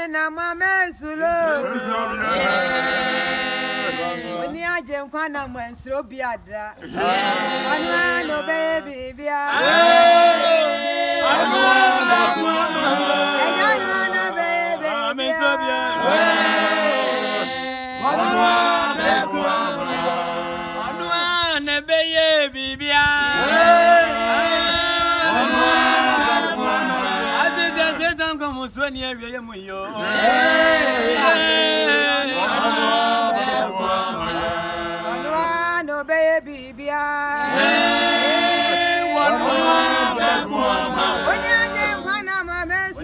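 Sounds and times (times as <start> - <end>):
mixed choir singing a cappella: 1.5 - 4.7, 6.8 - 28.4, 29.7 - 36.2, 37.0 - 42.3.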